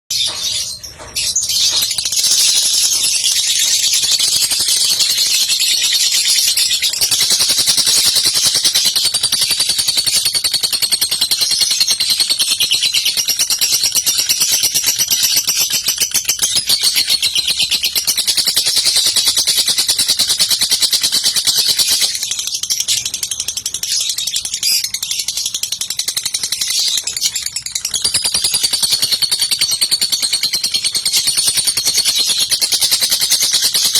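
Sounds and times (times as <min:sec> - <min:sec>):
lovebird rapid high chatter: 0:00.1 - 0:33.9.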